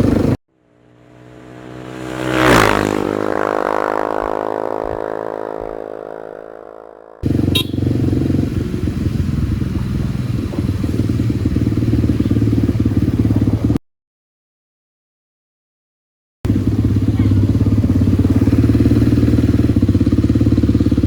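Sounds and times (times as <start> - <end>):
motorcycle engine running: 0.0 - 13.8, 16.5 - 21.0.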